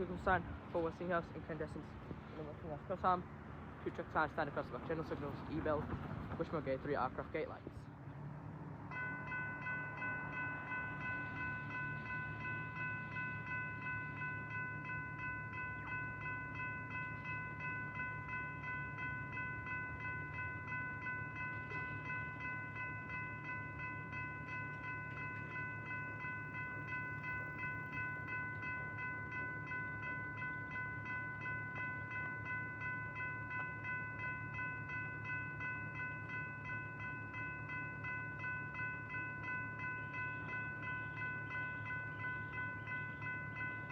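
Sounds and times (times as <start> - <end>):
level crossing warning bell: 0.0 - 7.7, 8.8 - 43.9.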